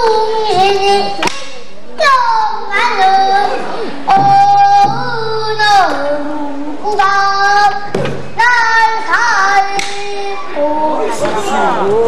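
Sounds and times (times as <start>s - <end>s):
girl singing long held notes: 0.0s - 12.0s.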